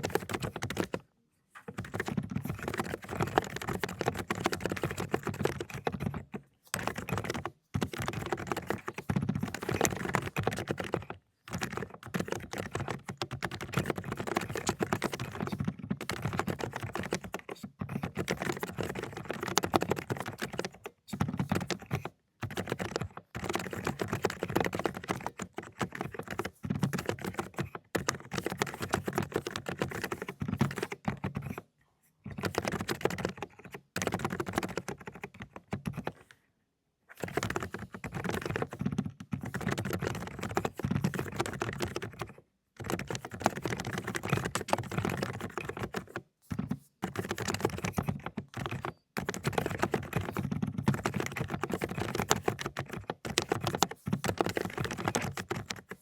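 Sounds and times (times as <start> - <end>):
fast typing on keyboard: 0.0 - 36.3, 37.1 - 56.0.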